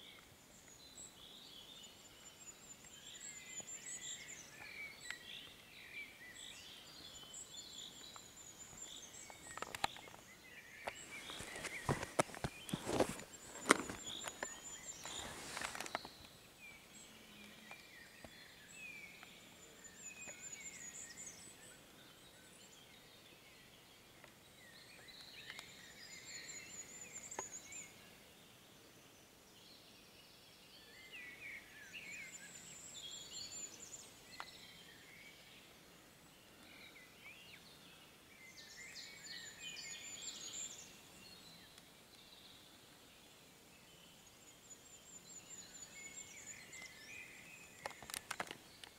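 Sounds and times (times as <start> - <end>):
songbird chirps and warbles: 0.0 - 48.9.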